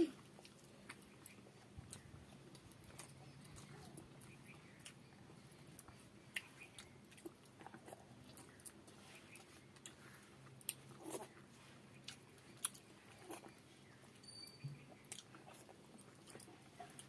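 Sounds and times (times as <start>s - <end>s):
faint low hum: 0.0s - 17.0s
person chewing with wet smacks: 0.1s - 14.2s, 14.8s - 17.0s.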